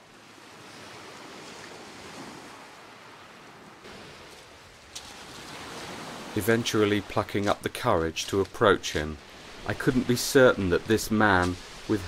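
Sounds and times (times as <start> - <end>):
waves washing onto shingle beach: 0.0 - 12.0.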